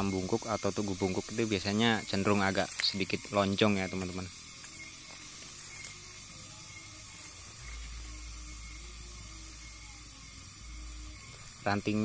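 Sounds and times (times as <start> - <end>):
high hiss: 0.0 - 12.0.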